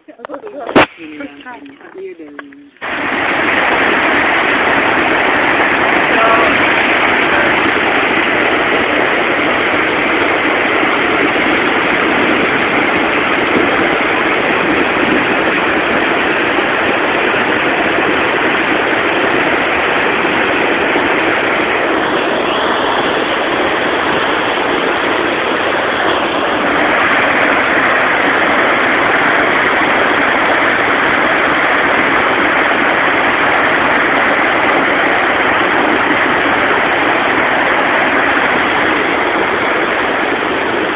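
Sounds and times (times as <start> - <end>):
water rushing over a weir: 2.8 - 40.9.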